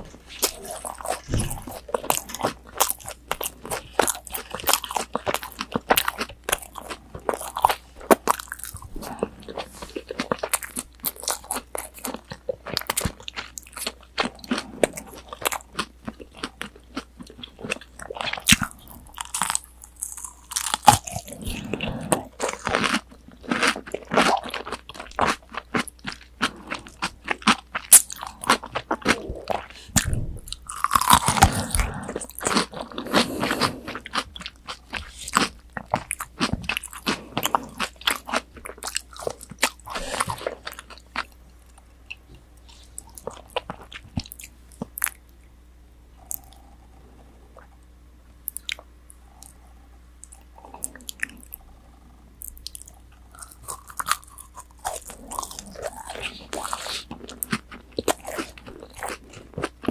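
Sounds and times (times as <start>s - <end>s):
crunchy chewing: 0.0s - 45.4s, 48.5s - 59.9s.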